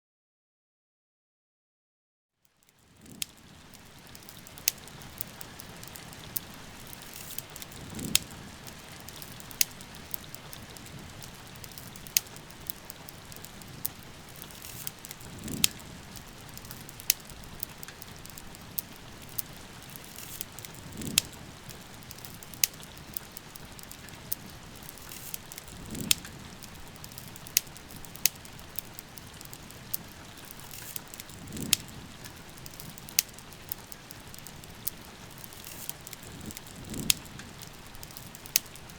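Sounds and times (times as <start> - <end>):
wood fire crackling: 2.4 - 38.9
steady rain falling: 2.5 - 38.9.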